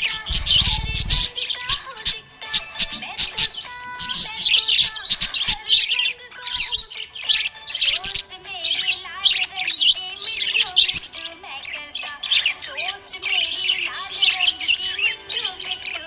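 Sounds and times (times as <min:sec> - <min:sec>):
parrots chirping and chattering: 0:00.0 - 0:16.0.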